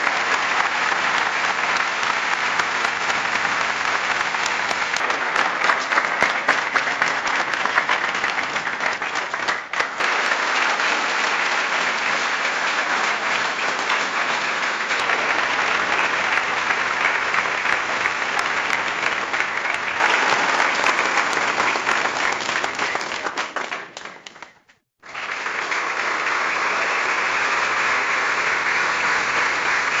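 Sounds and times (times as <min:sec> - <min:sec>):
crowd applauding: 0:00.0 - 0:30.0.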